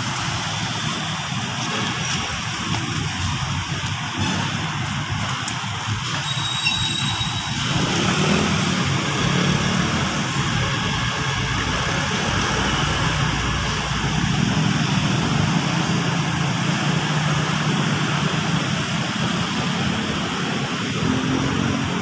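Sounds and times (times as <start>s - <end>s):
heavy road traffic: 0.0s - 22.0s.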